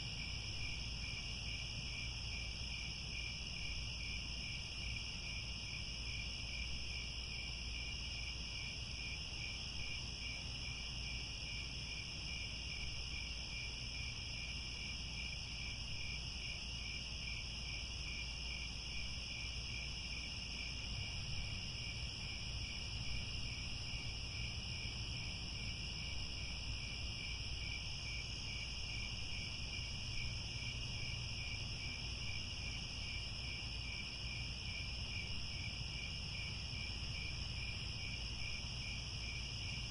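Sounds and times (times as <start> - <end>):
crickets chirring: 0.1 - 39.9.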